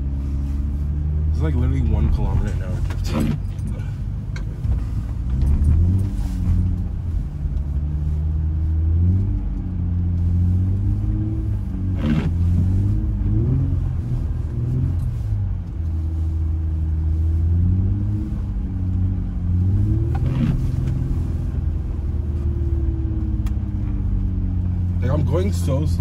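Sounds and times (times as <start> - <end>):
car engine revving from cabin: 0.0 - 26.0.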